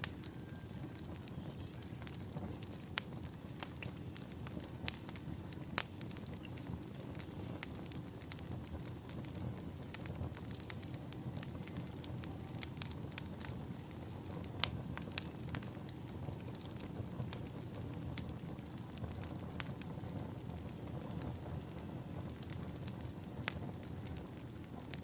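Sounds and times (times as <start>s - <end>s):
fire burning rush: 0.0s - 25.0s
fire pops and snaps: 0.0s - 25.0s.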